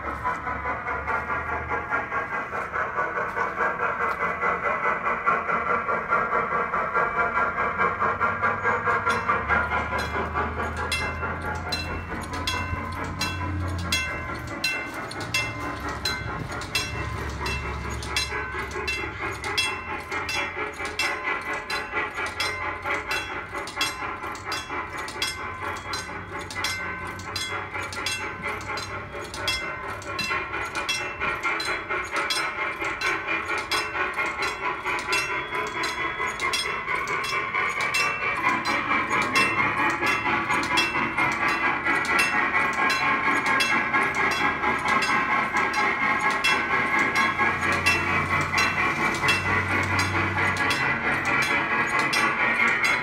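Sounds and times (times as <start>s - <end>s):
steam locomotive rhythmic beats: 0.0s - 53.0s.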